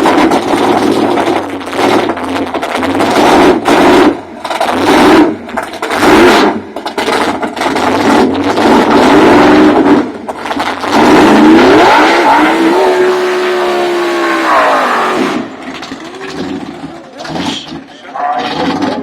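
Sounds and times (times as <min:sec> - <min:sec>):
car engine at full throttle: 0:00.0 - 0:19.0.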